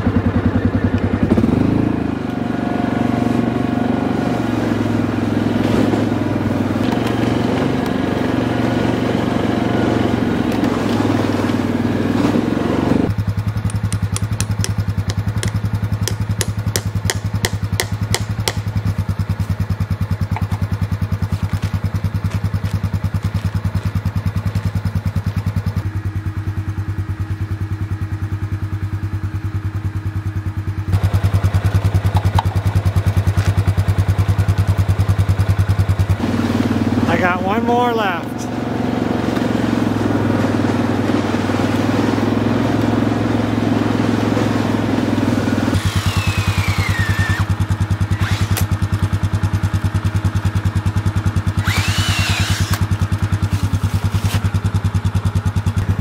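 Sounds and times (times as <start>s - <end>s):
atv engine running and idling: 0.0s - 56.0s.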